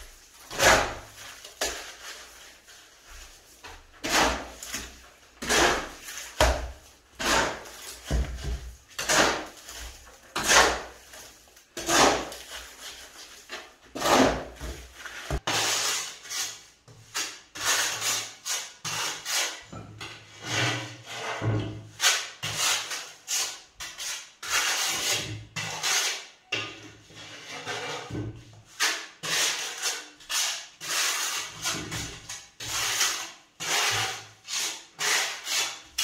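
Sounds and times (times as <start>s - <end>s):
shovel scraping wet mortar: 0.0s - 19.6s, 20.3s - 36.0s
trowel scraping mortar: 0.0s - 36.0s.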